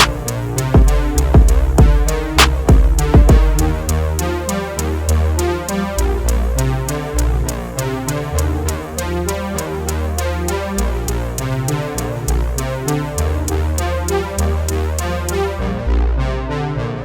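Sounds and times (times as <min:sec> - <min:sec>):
electronic music with drum beat: 0:00.0 - 0:15.6.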